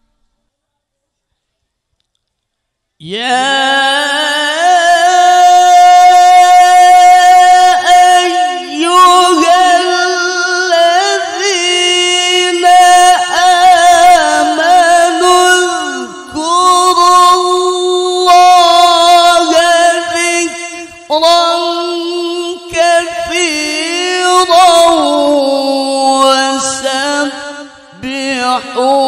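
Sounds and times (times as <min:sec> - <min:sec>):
man reciting melodically through microphone: 0:03.0 - 0:29.0.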